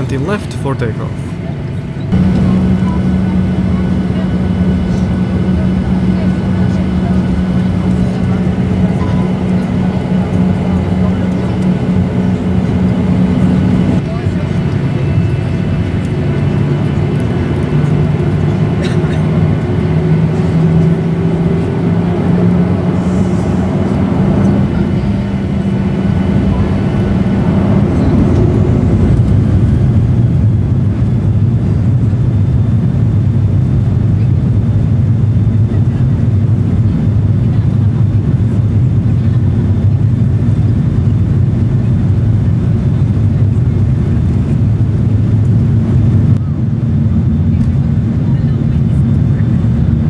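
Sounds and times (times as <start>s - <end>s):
jet engines heard from cabin: 0.0s - 50.0s
low rumble of runway roll: 0.0s - 50.0s.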